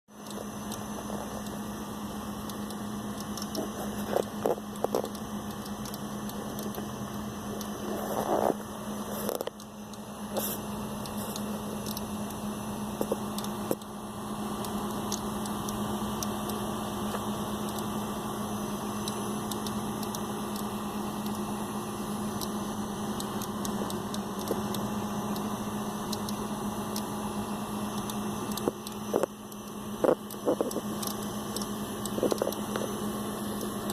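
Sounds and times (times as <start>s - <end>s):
computer humming and whirring: 0.1s - 33.9s.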